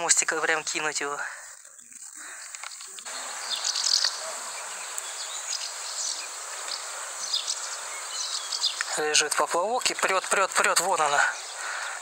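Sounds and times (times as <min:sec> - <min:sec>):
outdoor background hiss: 0:00.0 - 0:12.0
small birds chirping: 0:00.0 - 0:12.0.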